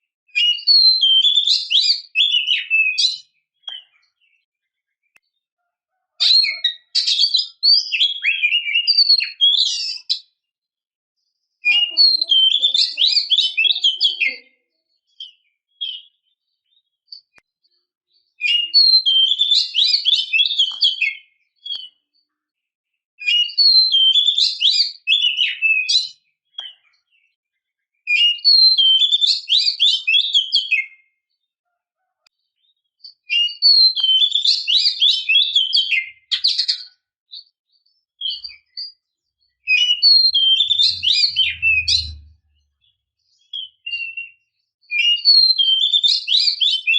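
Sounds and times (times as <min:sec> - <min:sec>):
songbird whistles and chirps: 0:00.3 - 0:10.5, 0:11.6 - 0:22.3, 0:23.2 - 0:31.5, 0:32.3 - 0:46.9.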